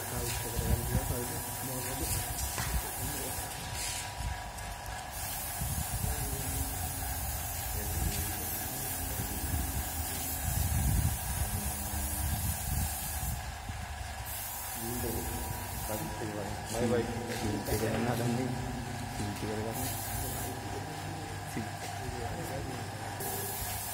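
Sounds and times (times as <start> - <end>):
paint spray gun hissing: 0.0 - 23.9.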